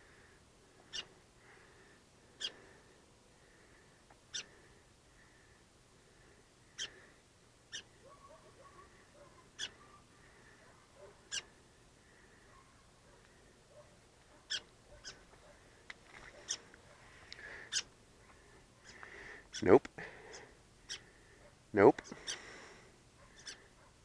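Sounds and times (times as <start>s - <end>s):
small birds chip calls: 0.0s - 23.8s.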